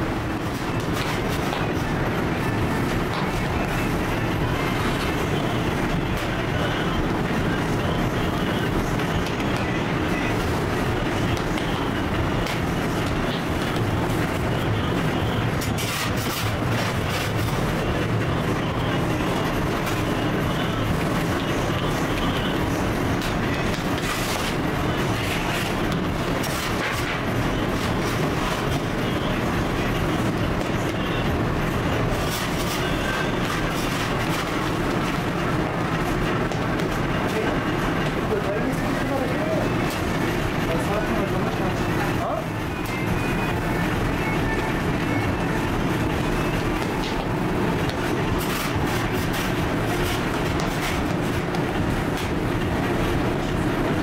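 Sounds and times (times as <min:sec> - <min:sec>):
loud machinery noise: 0:00.0 - 0:54.0.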